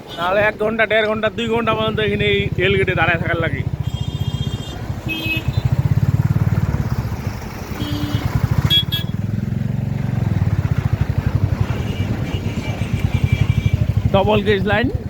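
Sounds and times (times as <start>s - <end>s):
motorcycle engine running: 1.2s - 15.0s.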